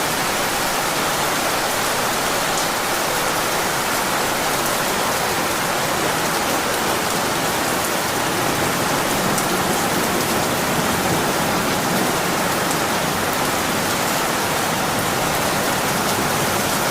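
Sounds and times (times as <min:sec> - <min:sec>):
heavy rain pattering: 0:00.0 - 0:16.9.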